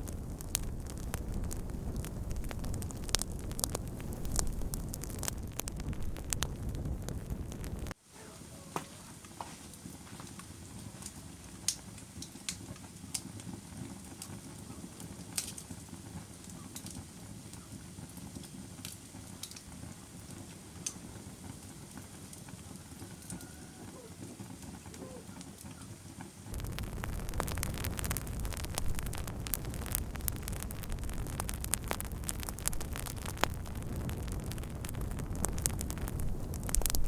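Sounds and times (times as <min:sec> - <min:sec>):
burning wood crackling and popping: 0:00.0 - 0:37.0
fire flames rumbling: 0:00.0 - 0:37.0.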